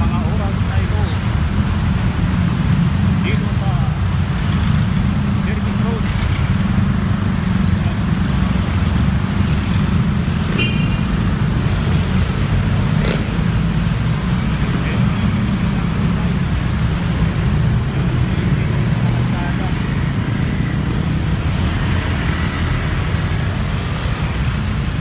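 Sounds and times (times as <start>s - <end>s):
traffic engines rumbling: 0.0s - 25.0s.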